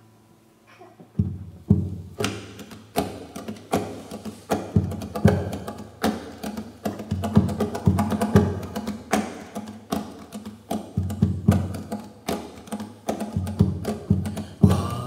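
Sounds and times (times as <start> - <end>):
guitars struck percussively: 1.1 - 15.0.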